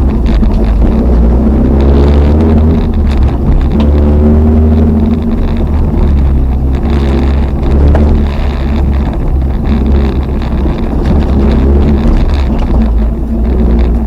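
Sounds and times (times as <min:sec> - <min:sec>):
car engine revving: 0:00.0 - 0:14.0
car knocking over rough ground: 0:00.0 - 0:14.0.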